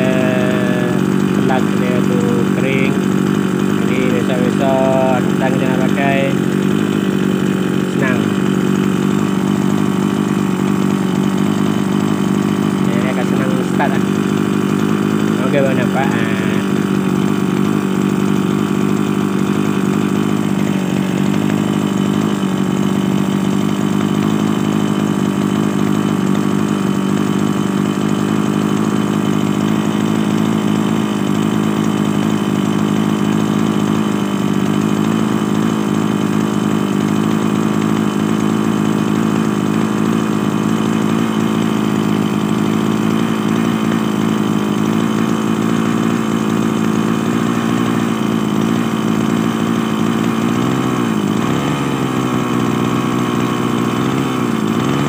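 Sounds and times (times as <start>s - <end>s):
small two-stroke engine idling: 0.0s - 55.0s.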